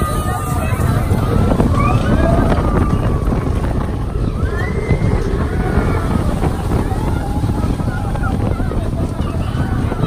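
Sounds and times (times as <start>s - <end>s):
roller coaster rumble: 0.0s - 10.0s
wind buffeting microphone: 0.0s - 10.0s.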